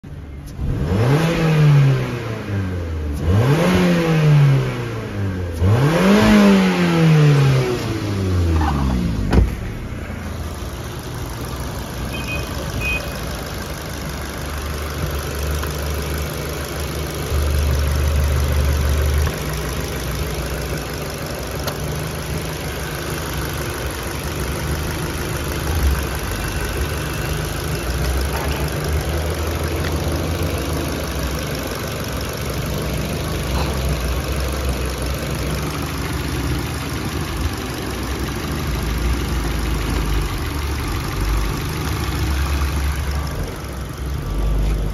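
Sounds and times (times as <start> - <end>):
car engine revving: 0.5 - 44.9
car engine idling: 4.9 - 44.9.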